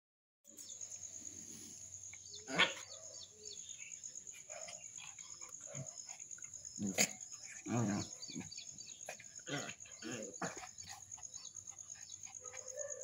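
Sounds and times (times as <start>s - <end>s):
faint bird chirps: 0.5s - 13.0s
insect chirring: 0.5s - 13.0s.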